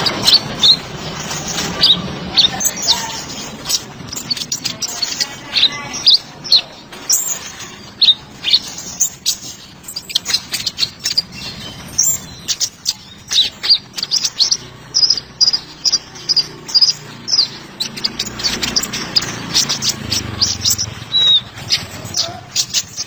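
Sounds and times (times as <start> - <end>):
sunbird chirping and twittering: 0.0 - 23.0.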